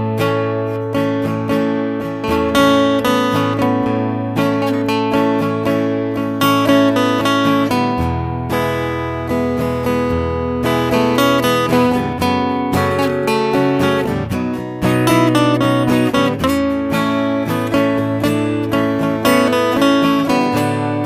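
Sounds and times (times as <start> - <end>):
acoustic guitar picking and strumming: 0.0 - 21.0.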